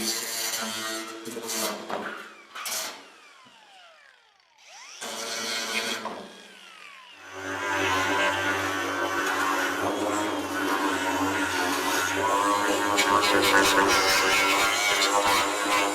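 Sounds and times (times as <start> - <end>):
power tool whining: 0.0 - 15.9.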